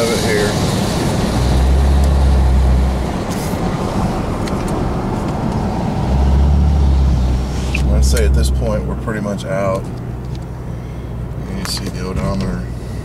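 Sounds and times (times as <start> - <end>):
car road rumble: 0.0 - 13.0.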